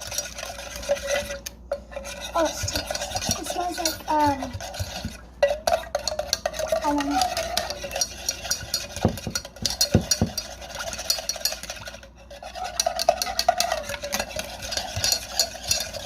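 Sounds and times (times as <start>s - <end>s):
whisk clicking against pan: 0.0s - 16.0s.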